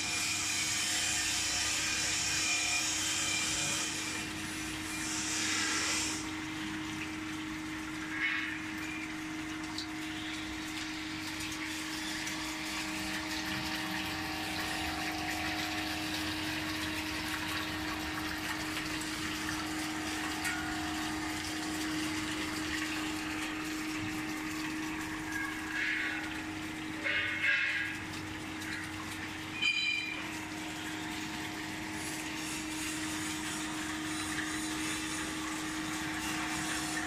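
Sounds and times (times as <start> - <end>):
machine hum: 0.2 - 37.0
water rushing inside drum: 3.9 - 37.0.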